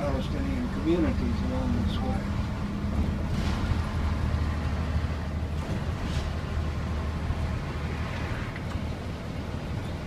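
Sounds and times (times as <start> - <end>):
bus engine drone: 0.0 - 10.0
road noise: 0.0 - 10.0.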